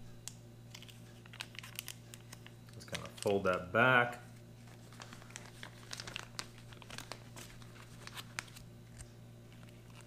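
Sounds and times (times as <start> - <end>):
foil food pouches crinkling: 0.7 - 3.8, 4.6 - 10.0.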